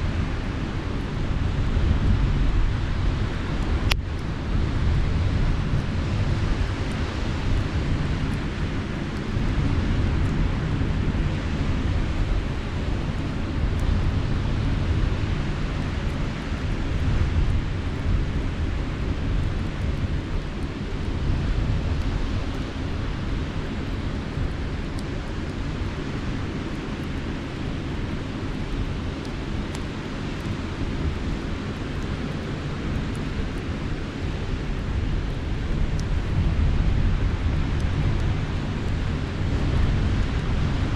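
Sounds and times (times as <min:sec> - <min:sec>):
campfire crackling: 0:00.0 - 0:40.9
wind buffeting microphone: 0:00.0 - 0:40.9.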